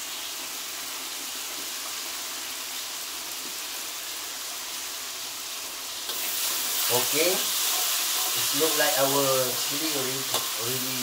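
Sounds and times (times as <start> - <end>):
chili paste sizzling in a wok: 0.0 - 11.0
food deep-frying in hot oil: 0.0 - 11.0.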